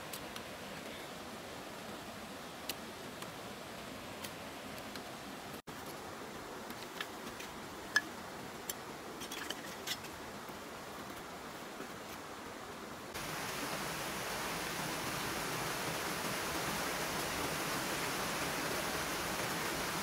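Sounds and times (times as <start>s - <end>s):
shallow stream rushing: 0.0s - 20.0s.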